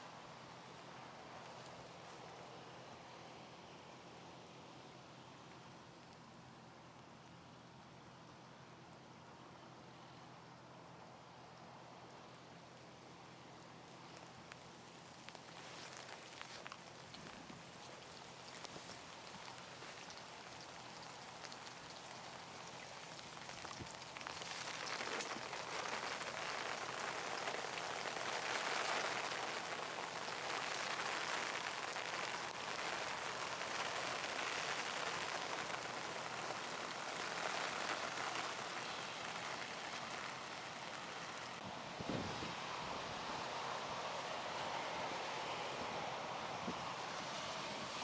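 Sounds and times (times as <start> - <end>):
steady rain-like noise: 0.0 - 48.0.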